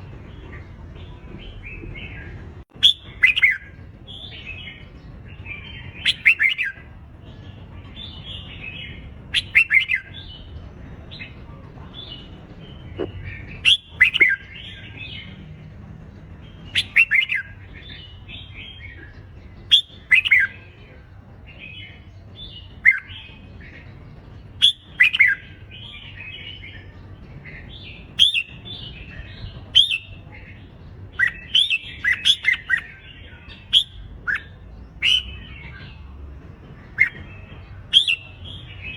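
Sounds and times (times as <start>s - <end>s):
fainter birds singing: 0.0s - 38.9s
birds singing warbled phrases: 0.2s - 15.4s, 16.1s - 38.9s.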